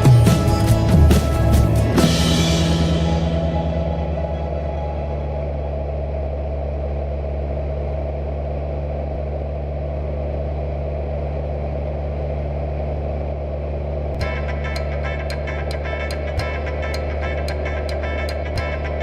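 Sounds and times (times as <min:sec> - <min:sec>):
propeller aircraft engine drone: 0:00.0 - 0:19.0.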